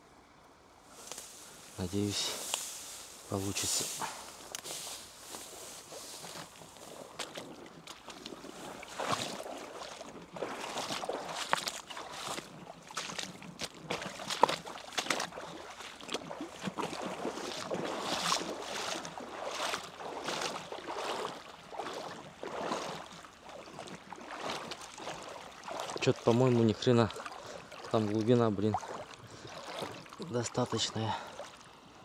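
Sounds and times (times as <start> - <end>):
person wading through water: 0.8 - 32.0.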